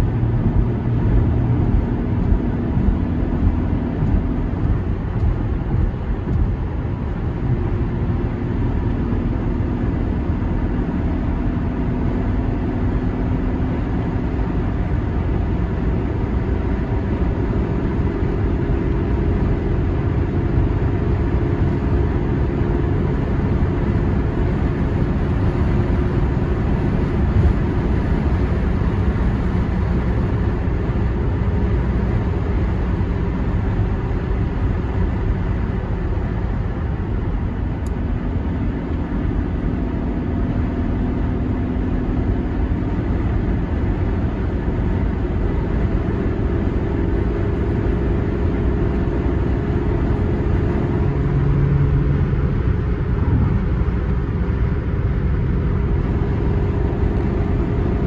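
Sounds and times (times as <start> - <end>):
car engine drone: 0.0 - 58.0
road noise: 0.0 - 58.0.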